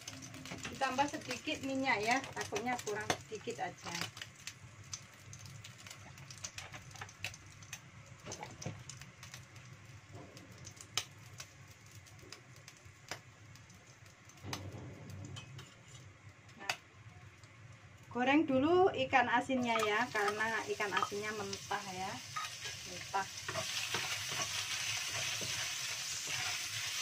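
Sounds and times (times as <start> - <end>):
oil popping in a wok: 0.0 - 18.2, 19.5 - 27.0.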